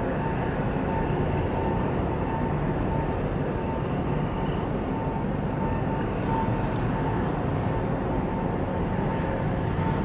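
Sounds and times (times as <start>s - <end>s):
faint whine: 0.0s - 10.0s.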